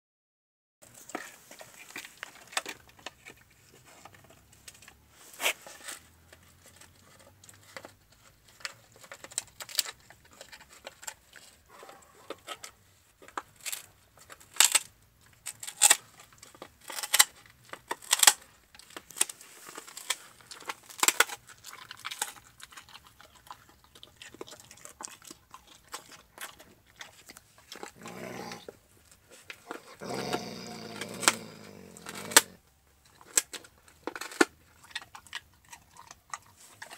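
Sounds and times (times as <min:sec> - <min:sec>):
rough gnawing noise: 0:00.8 - 0:36.9
dog crunching bone: 0:00.9 - 0:36.9.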